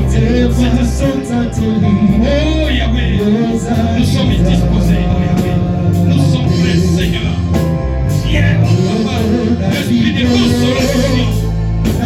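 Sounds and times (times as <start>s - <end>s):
voices singing: 0.0s - 12.0s
worship music: 0.0s - 12.0s.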